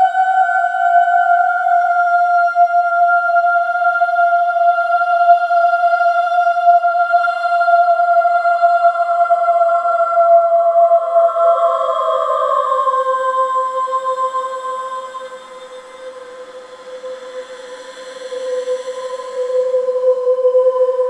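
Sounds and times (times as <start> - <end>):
eerie wavering drone: 0.0 - 21.0.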